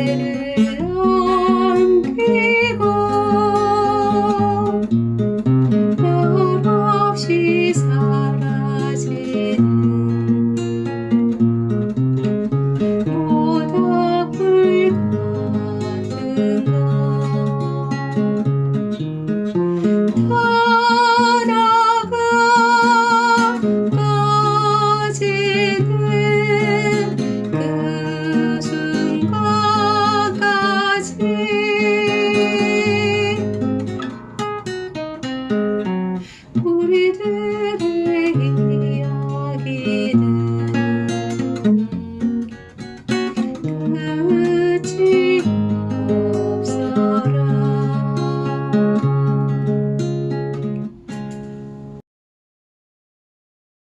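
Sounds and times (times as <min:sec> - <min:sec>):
acoustic guitar chords: 0:00.0 - 0:52.0.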